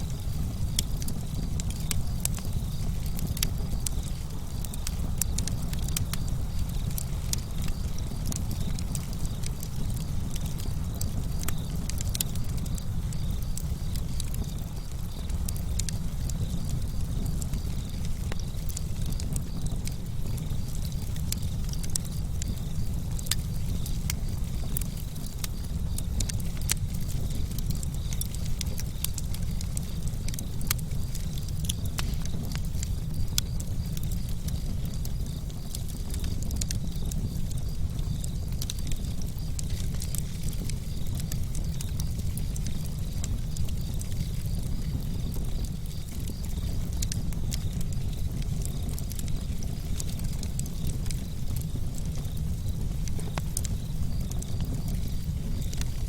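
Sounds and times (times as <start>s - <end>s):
campfire flame rumble: 0.0s - 56.0s
fire crackling and popping: 0.0s - 56.0s.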